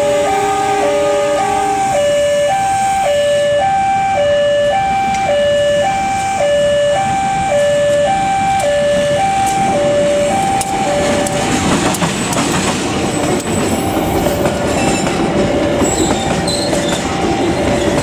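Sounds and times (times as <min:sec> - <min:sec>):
two-tone crossing alarm: 0:00.0 - 0:12.3, 0:13.5 - 0:18.0
diesel locomotive approaching: 0:00.0 - 0:18.0.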